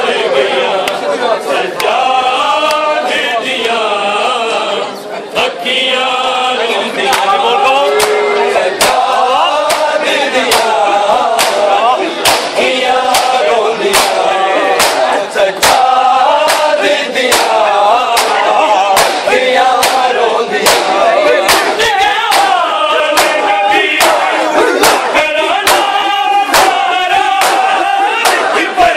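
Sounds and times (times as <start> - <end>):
men singing a lament: 0.0 - 28.9.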